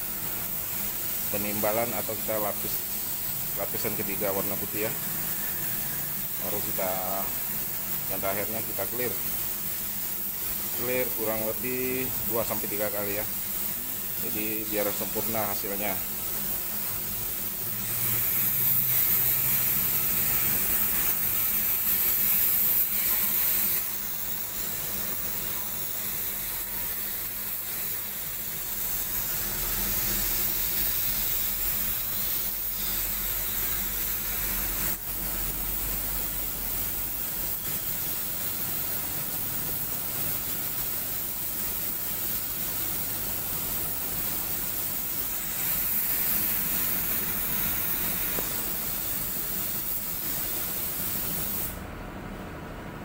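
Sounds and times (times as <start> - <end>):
spray gun hissing: 0.0 - 51.8.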